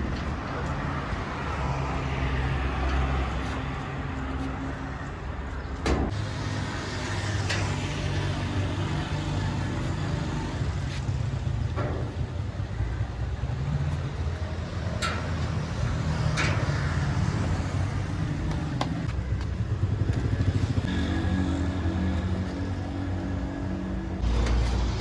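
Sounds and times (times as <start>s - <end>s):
vehicle engines running: 0.0s - 25.0s.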